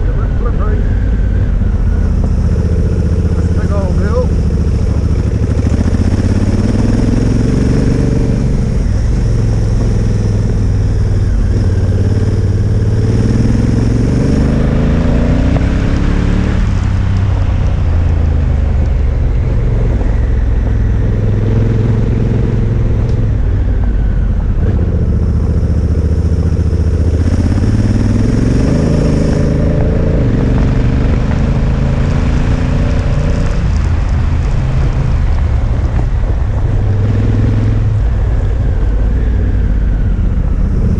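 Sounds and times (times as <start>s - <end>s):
motorcycle engine accelerating: 0.0s - 40.9s
steady rushing noise: 0.0s - 40.9s.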